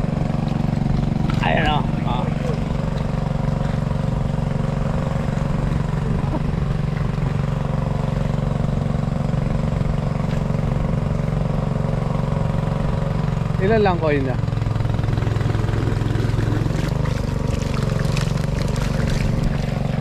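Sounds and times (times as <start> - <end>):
small pump engine running: 0.0 - 20.0.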